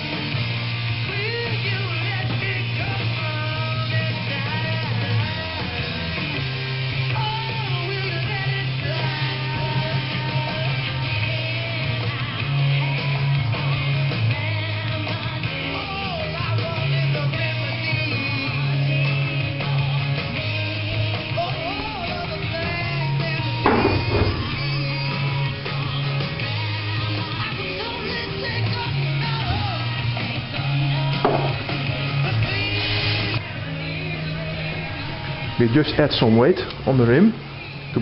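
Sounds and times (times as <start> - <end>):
rock music with singing: 0.0 - 38.0.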